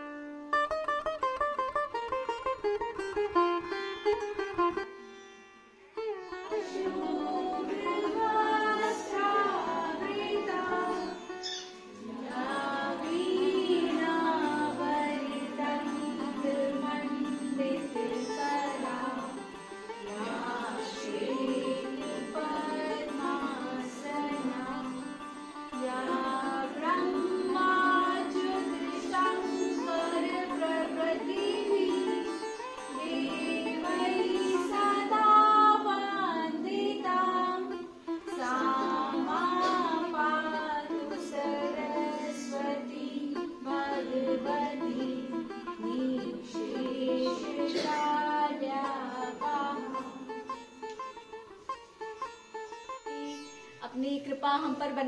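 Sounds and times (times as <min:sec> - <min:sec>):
sitar: 0:00.0 - 0:55.0
woman singing: 0:06.5 - 0:11.3, 0:12.1 - 0:50.6, 0:53.2 - 0:55.0.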